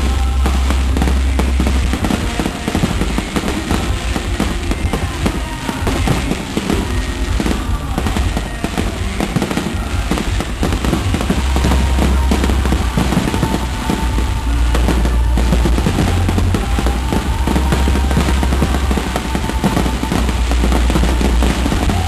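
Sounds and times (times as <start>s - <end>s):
deep low rumble: 0.0s - 22.0s
fireworks bangs and crackling: 0.0s - 22.0s.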